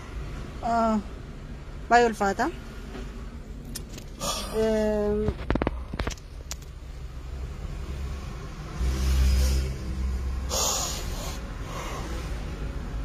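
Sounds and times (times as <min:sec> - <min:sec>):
car engine rumble: 0:00.0 - 0:13.0
road noise inside cabin: 0:00.0 - 0:13.0.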